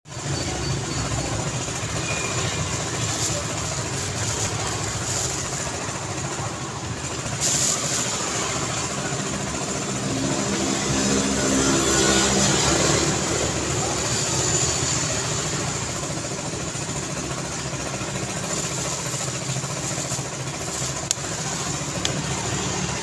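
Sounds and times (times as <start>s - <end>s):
steady engine hum: 0.1s - 23.0s
traffic rumble: 0.1s - 23.0s.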